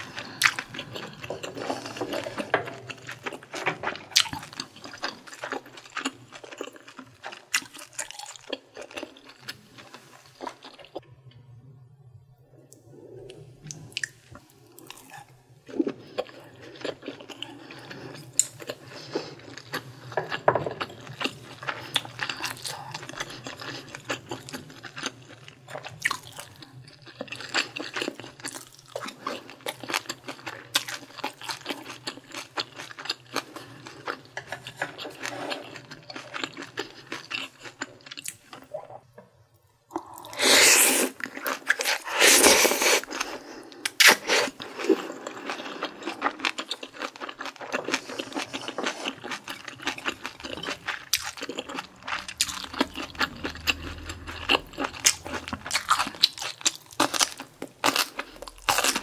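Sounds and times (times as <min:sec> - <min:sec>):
person chewing food: 0:00.0 - 0:11.1, 0:13.2 - 0:39.2, 0:39.9 - 0:59.0.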